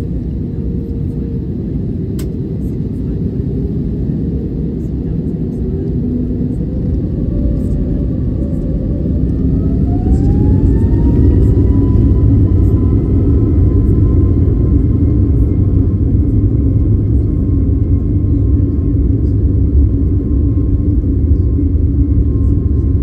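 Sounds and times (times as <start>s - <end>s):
jet engine rumble: 0.0s - 23.0s
jet engine whine: 0.0s - 23.0s.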